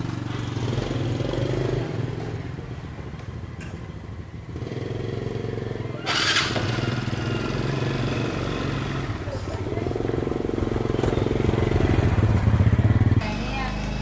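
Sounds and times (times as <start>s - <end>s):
motorcycle engines running slowly: 0.0s - 14.0s.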